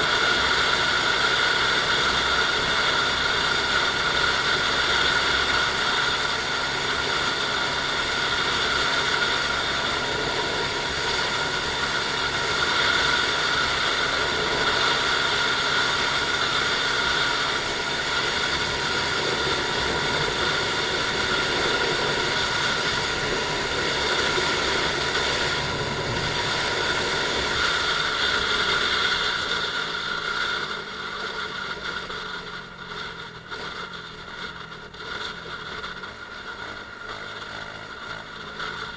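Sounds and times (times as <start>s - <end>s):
motorcycle engine running: 0.0s - 38.9s
road and wind noise: 0.0s - 38.9s.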